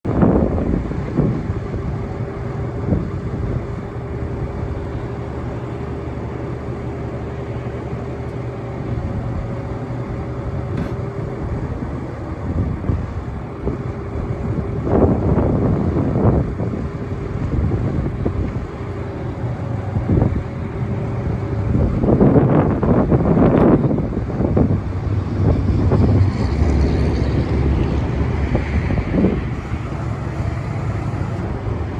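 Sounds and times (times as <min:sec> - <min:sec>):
diesel truck idling: 0:00.0 - 0:31.9
rushes of noise: 0:00.3 - 0:31.9.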